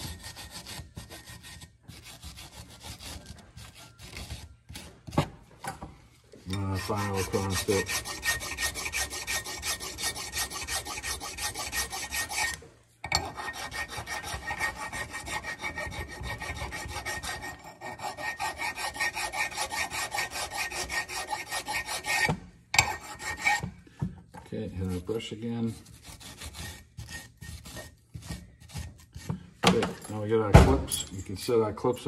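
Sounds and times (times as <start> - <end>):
hand file rasping on steel: 0.0 - 5.3, 6.4 - 23.8, 24.7 - 29.5.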